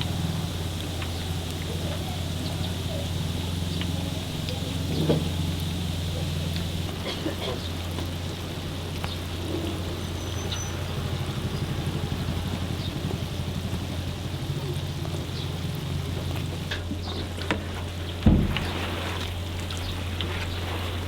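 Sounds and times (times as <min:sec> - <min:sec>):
hot oil sizzling: 0:00.0 - 0:21.0.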